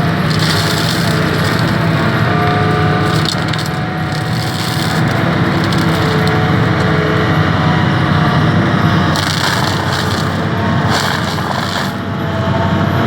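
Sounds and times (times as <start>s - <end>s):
excavator engine: 0.0s - 13.0s
forestry mulcher shredding wood: 0.0s - 13.0s.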